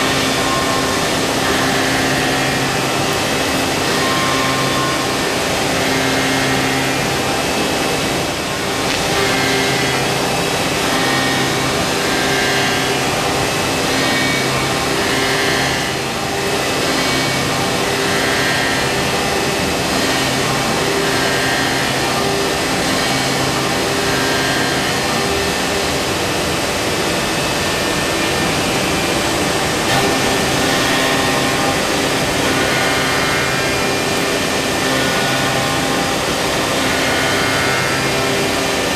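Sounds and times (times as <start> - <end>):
cnc router cutting wood: 0.0 - 38.9.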